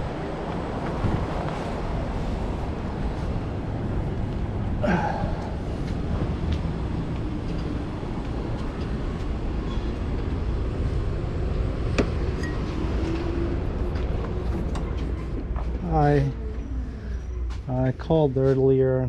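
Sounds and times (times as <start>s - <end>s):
rumble of passing traffic: 0.0s - 19.0s.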